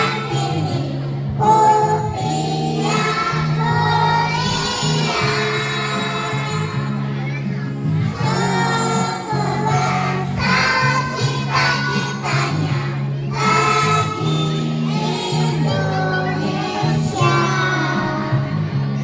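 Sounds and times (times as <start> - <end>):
children's choir singing: 0.0 - 19.0
musical accompaniment: 0.0 - 19.0.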